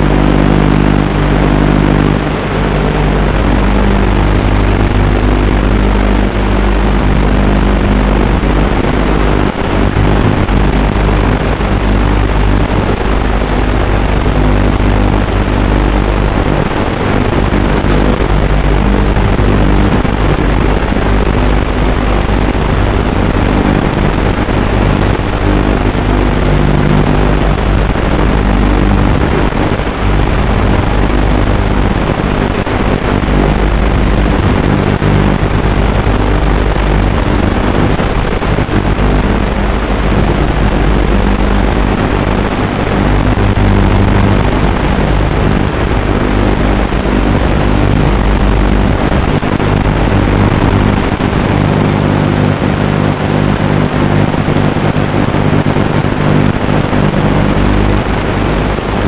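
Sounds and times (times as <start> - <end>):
loud static hiss: 0.0 - 59.0
low hum: 0.0 - 59.0.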